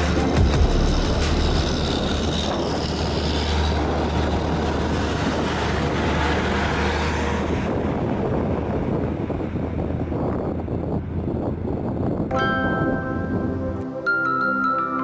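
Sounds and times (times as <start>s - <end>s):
road noise: 0.0s - 14.4s
diesel truck engine drone: 0.0s - 15.0s.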